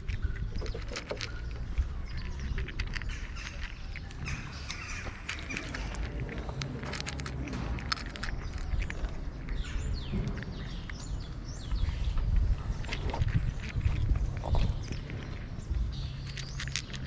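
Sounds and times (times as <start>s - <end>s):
birds chirping: 0.0s - 17.0s
cats crunching dry kibble: 0.0s - 17.0s.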